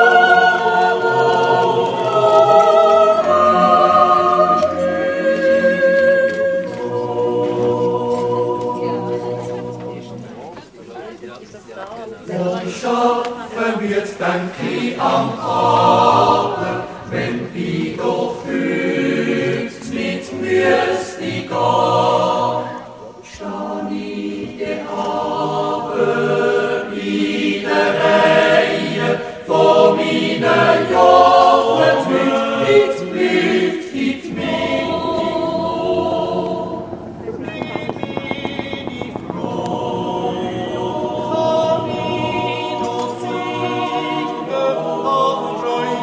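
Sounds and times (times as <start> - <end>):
choir singing in harmony: 0.0 - 10.7, 12.2 - 46.0.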